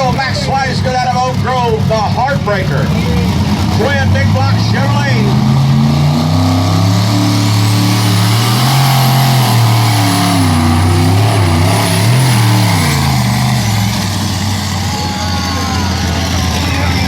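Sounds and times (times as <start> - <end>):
tractor engines running hard: 0.0 - 17.0.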